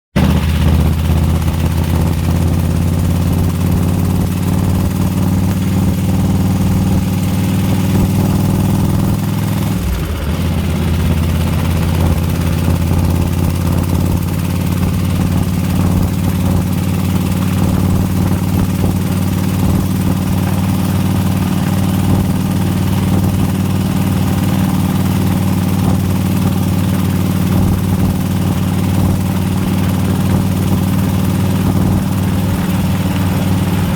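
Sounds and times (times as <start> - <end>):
engine ticking: 0.1 - 33.9
motorcycle engine idling: 0.2 - 33.9.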